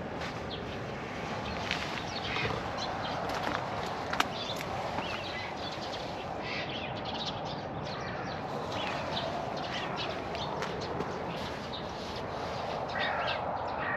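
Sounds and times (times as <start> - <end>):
small birds chirping: 0.2 - 13.9.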